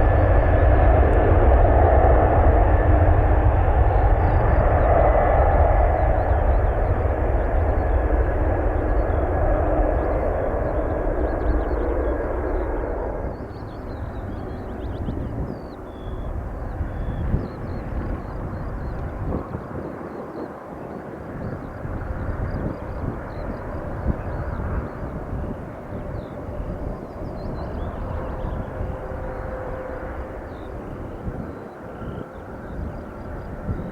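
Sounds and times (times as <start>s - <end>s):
jet aircraft roar: 0.0s - 33.9s.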